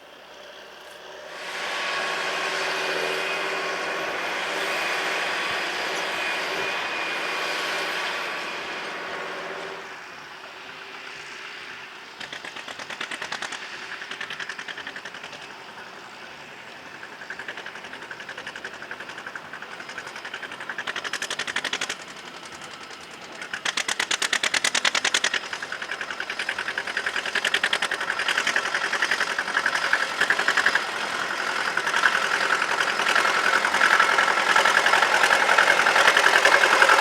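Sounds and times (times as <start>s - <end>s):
diesel engine chugging: 0.0s - 37.0s
tractor engine whining: 0.0s - 37.0s.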